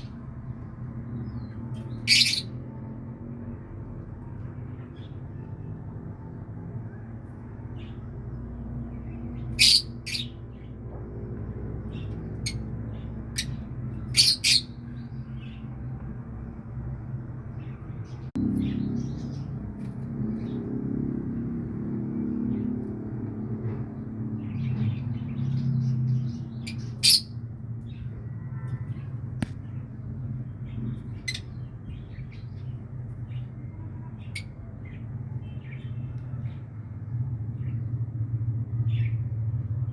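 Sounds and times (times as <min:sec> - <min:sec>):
birds chirping: 0:00.0 - 0:02.8, 0:03.4 - 0:20.8, 0:22.2 - 0:39.9.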